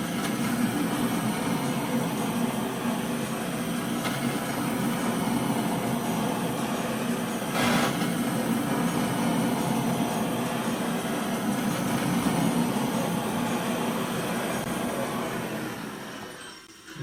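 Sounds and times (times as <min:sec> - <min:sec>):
gas torch burning: 0:00.0 - 0:17.0.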